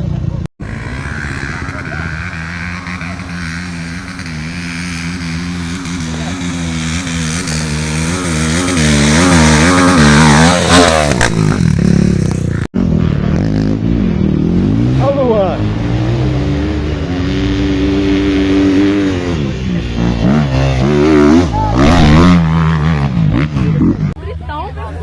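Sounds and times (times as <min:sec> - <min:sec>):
another engine: 0:00.0 - 0:24.2
dirt bike engine revving: 0:00.0 - 0:24.2.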